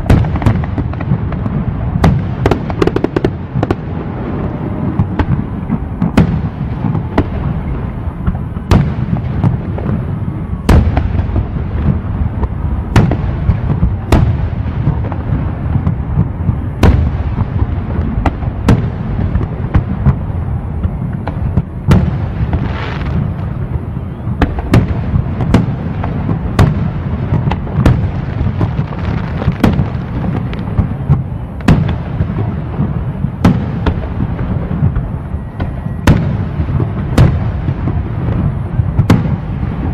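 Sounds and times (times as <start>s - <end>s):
continuous low rumble: 0.0s - 39.9s
firework shells bursting: 0.0s - 39.9s.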